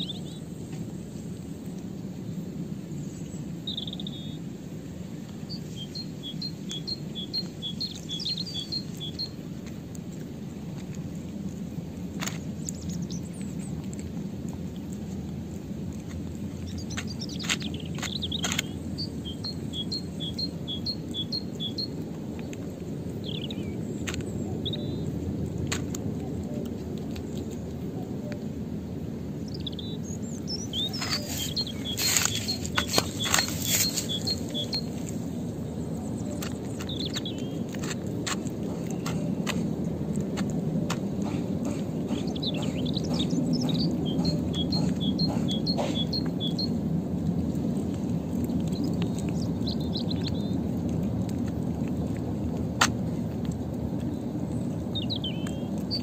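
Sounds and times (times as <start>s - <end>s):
cat eating from bowl: 0.0s - 56.0s
small birds chirping: 0.0s - 56.0s.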